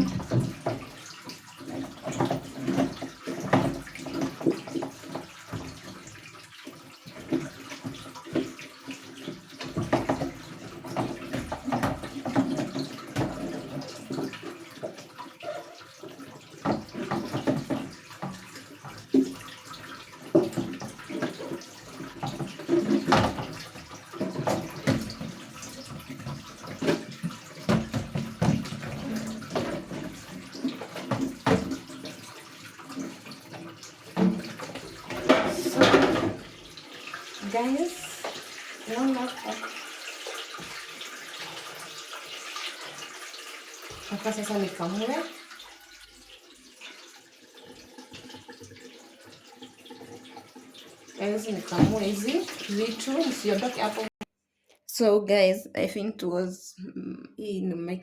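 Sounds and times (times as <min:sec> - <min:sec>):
water splashing and sloshing: 0:00.0 - 0:54.3.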